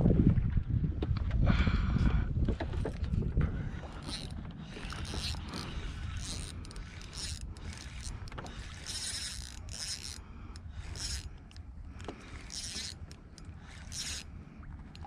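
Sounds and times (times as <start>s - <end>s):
wind rumble on microphone: 0.0s - 12.6s.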